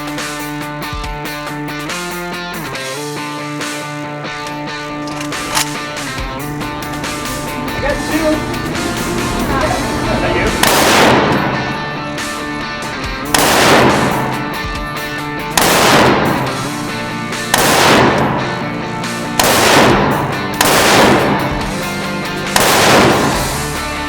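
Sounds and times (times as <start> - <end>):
music with held notes: 0.0 - 24.0.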